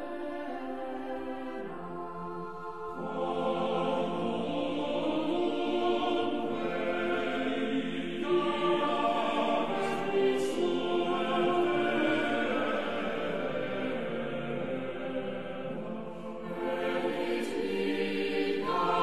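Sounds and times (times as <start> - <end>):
choir singing slow chant: 0.0 - 19.0.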